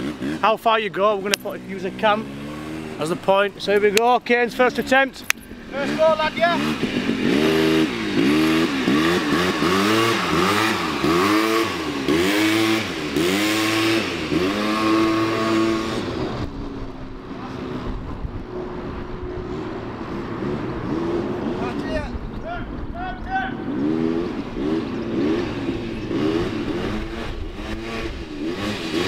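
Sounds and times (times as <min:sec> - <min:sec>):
quad bike engine revving: 0:00.0 - 0:22.3, 0:23.5 - 0:29.0.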